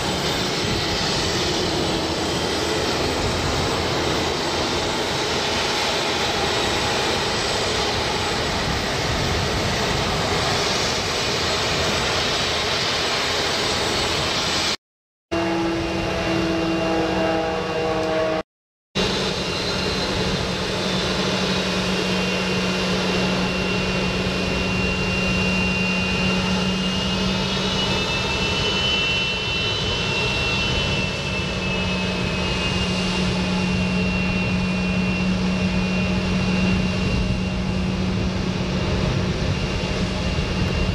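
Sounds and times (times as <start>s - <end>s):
jet engines whining at taxi power: 0.0s - 18.4s, 19.0s - 40.9s.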